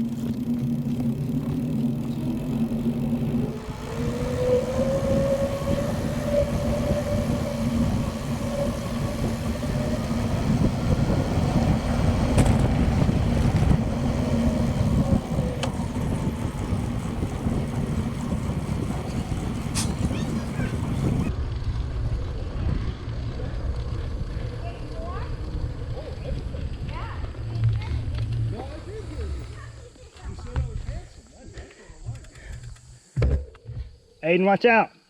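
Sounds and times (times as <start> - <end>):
steady hum rising in pitch: 0.0 - 29.9
bicycle tyres rolling on pavement: 0.0 - 33.1
wind rumbling on microphone: 0.0 - 34.0.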